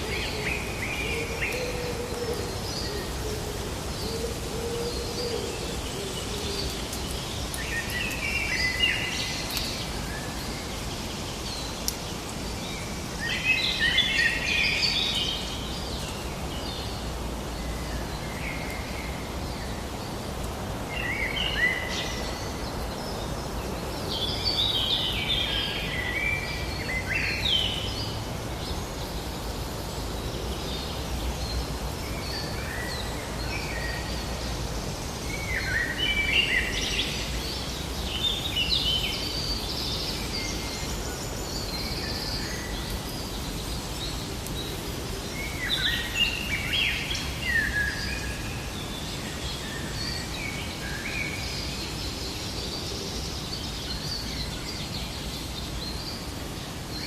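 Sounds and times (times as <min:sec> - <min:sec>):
background hiss: 0:00.0 - 0:57.0
songbirds chirping: 0:00.0 - 0:57.0.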